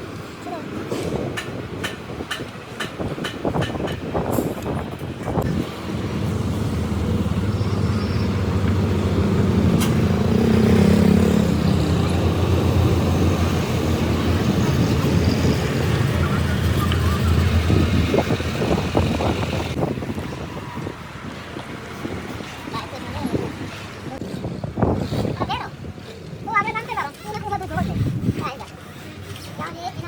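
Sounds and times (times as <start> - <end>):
large engine rumbling: 0.0 - 30.0.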